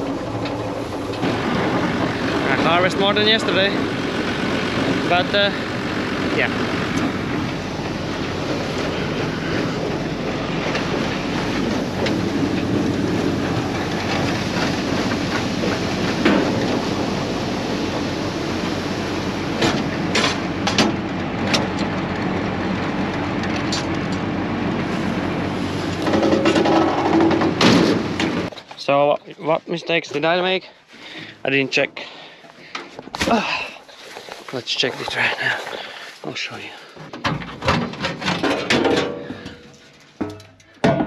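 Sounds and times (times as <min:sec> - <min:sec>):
heavy farm machinery rattling: 0:00.0 - 0:41.0.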